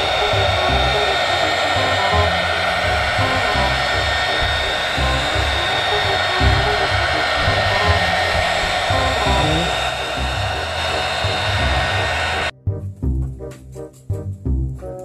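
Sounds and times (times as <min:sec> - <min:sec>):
fan whine: 0:00.0 - 0:12.5
heat gun blowing hot air: 0:00.0 - 0:12.5
background music with bass line: 0:00.0 - 0:15.0.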